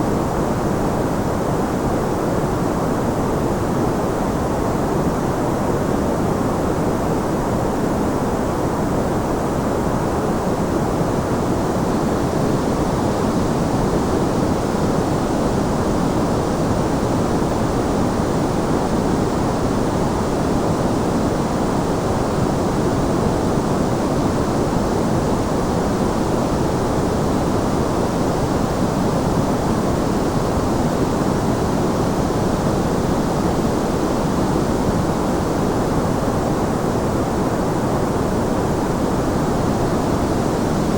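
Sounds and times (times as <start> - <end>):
steady white noise: 0.0 - 40.9.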